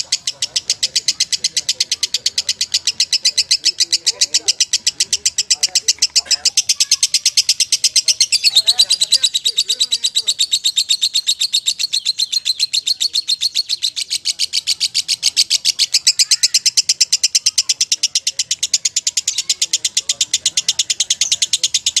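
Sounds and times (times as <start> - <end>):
lovebird chattering song: 0.0 - 22.0.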